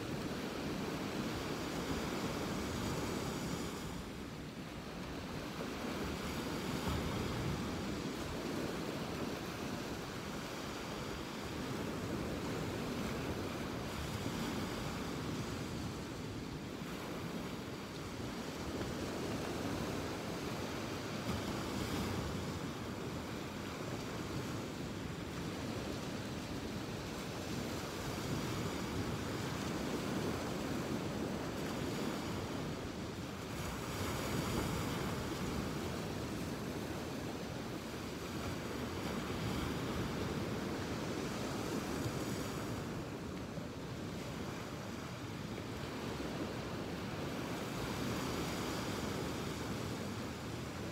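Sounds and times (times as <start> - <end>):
ocean surf washing onto beach: 0.0 - 50.9
wind rumbling on microphone: 0.0 - 50.9.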